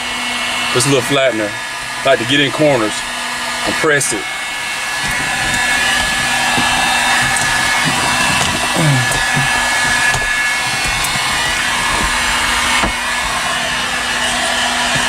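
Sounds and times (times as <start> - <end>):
heat gun blowing with a whine: 0.0 - 15.0.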